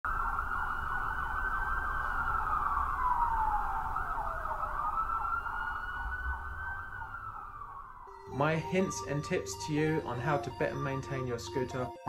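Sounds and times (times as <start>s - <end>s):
siren wailing: 0.1s - 12.0s.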